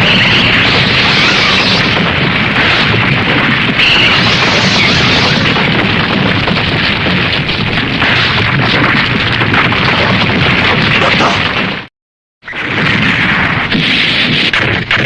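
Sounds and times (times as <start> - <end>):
explosion roar: 0.0 - 11.9, 12.5 - 15.0.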